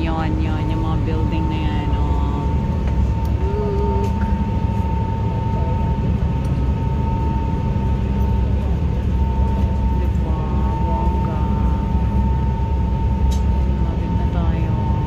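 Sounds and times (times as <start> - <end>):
ferry engine low drone: 0.0 - 15.0
steady high whine: 0.0 - 15.0.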